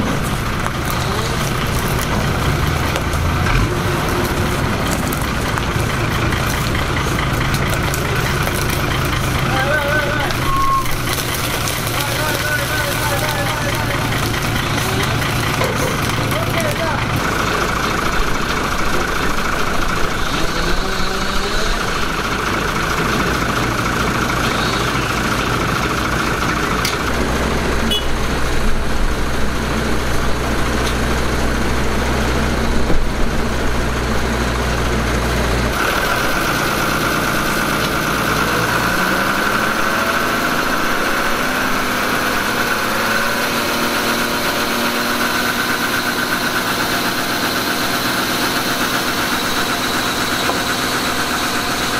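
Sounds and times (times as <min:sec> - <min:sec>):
tractor diesel engine drone: 0:00.0 - 0:51.9
wood chipper hum: 0:00.0 - 0:51.9.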